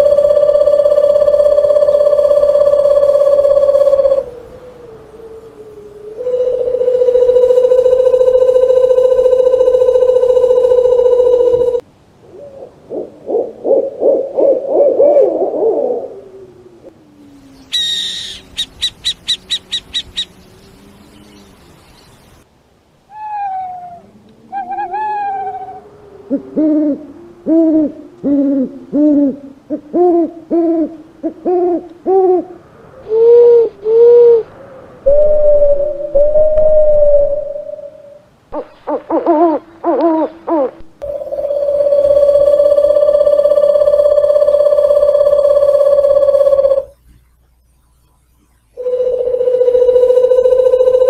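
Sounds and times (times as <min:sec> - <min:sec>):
owl calls: 0:00.0 - 0:16.2, 0:17.7 - 0:20.5, 0:23.1 - 0:46.9.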